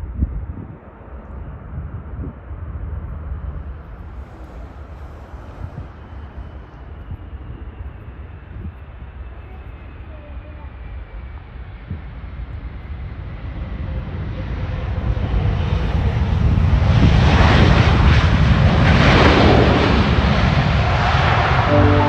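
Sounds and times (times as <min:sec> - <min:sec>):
jet airliner passing: 0:00.9 - 0:22.0.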